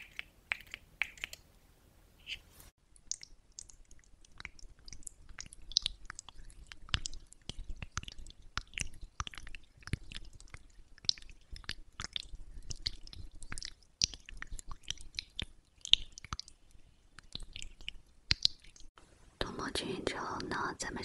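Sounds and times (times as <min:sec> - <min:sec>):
wet sticky lotion squishes: 0:00.0 - 0:01.4, 0:03.0 - 0:18.9.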